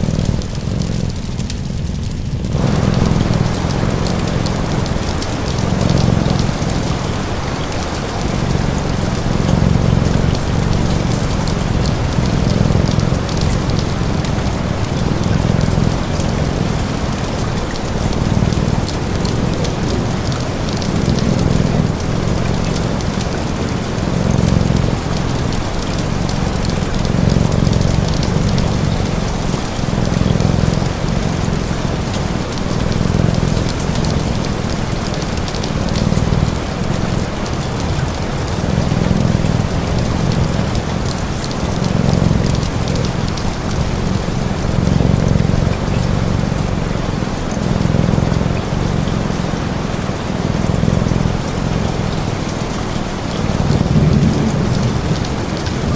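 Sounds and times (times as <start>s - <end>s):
cat purring: 0.0s - 55.9s
rain pattering: 0.0s - 55.9s.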